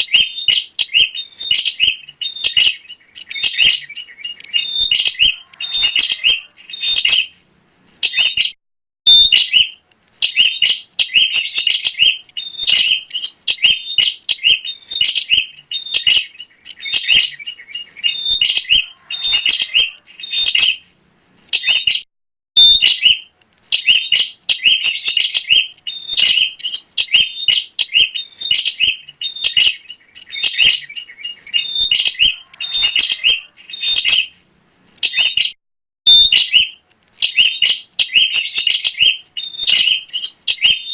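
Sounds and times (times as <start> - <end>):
bird chirping: 0.0 - 22.0, 22.6 - 40.9.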